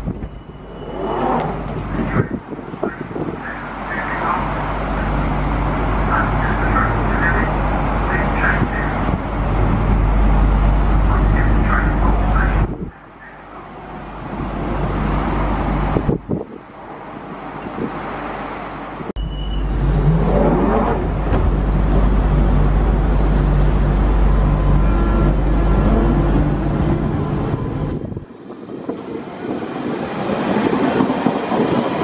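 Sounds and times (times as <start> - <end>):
train low hum: 0.0 - 32.0.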